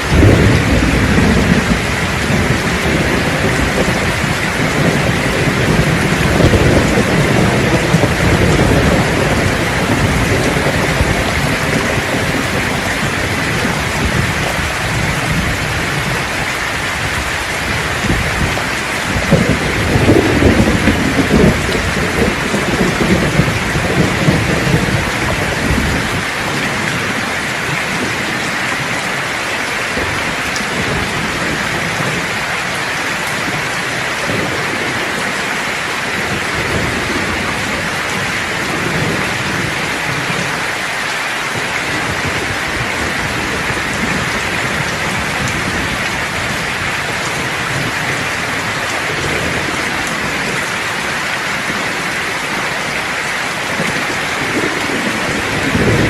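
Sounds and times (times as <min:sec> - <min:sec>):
thunder rumbling: 0:00.0 - 0:40.8, 0:41.4 - 0:56.0
heavy rain: 0:00.0 - 0:56.0.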